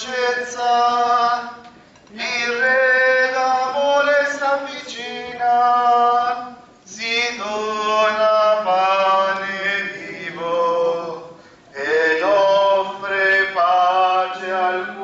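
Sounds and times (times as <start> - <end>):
hymn singing: 0.0 - 15.0.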